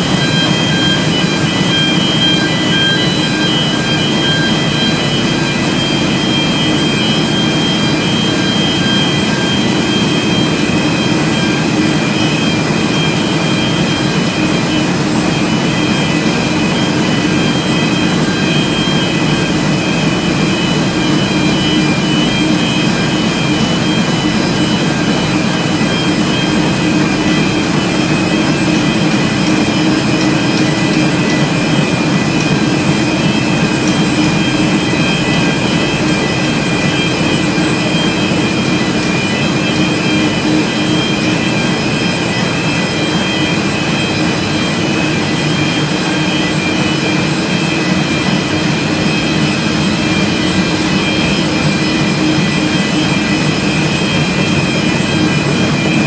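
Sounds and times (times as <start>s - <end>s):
high machine whines: 0.0s - 56.0s
printing press mechanical hum: 0.0s - 56.0s.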